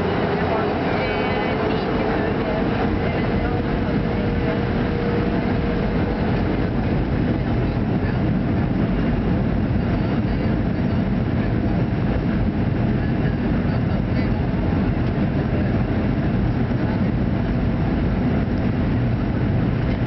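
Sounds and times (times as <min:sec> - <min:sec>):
jet engine cabin noise: 0:00.0 - 0:20.0.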